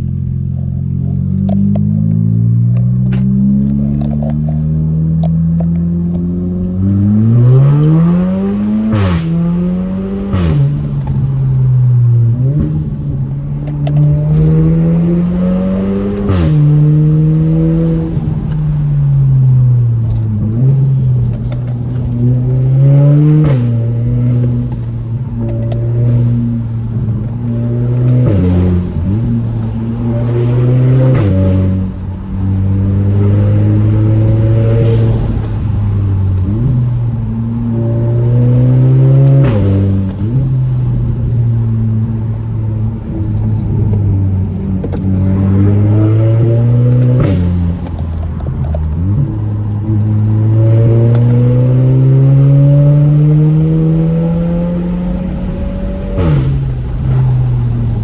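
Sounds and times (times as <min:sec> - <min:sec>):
car engine accelerating hard: 0:00.0 - 0:58.0
exhaust cracks on upshifts: 0:00.0 - 0:58.0.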